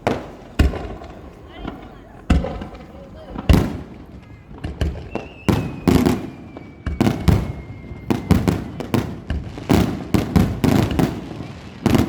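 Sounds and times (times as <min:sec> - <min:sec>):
fireworks bangs with rumbling echo: 0:00.0 - 0:12.0.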